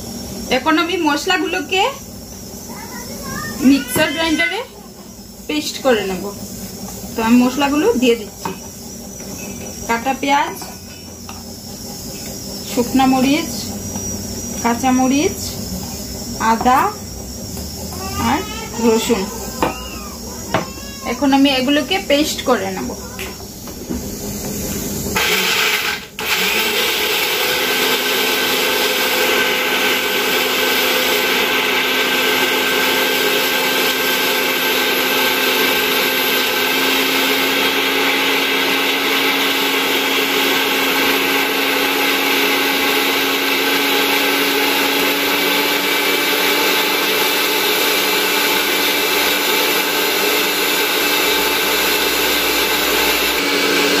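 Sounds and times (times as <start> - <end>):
mixer grinder motor running: 0.0 - 54.0.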